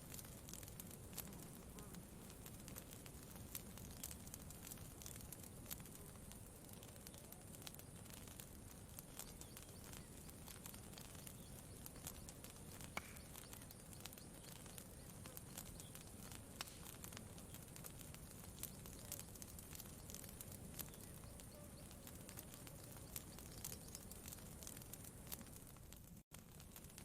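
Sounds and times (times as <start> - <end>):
campfire crackling: 0.0 - 27.0.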